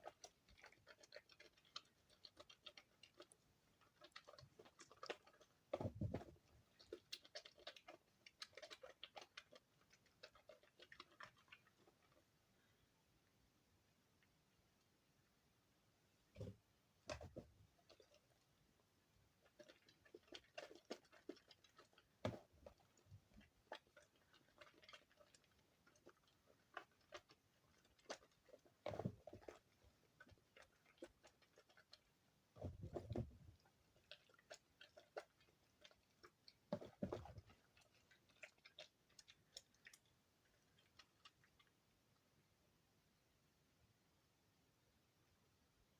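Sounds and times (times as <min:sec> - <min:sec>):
soap squishing: 0:00.0 - 0:13.3, 0:16.2 - 0:42.4.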